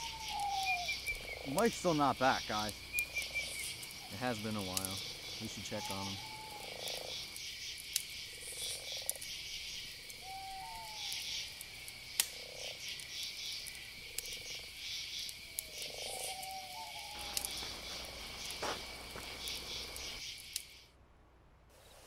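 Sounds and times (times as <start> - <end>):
crickets trilling: 0.0 - 20.9
frog calls: 0.0 - 20.9.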